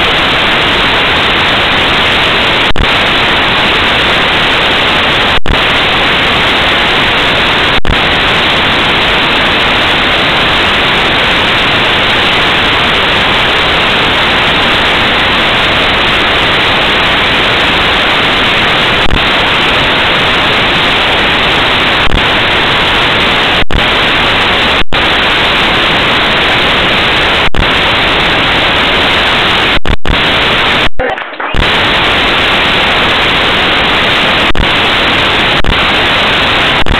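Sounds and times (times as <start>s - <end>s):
loud static hiss: 0.0s - 36.9s.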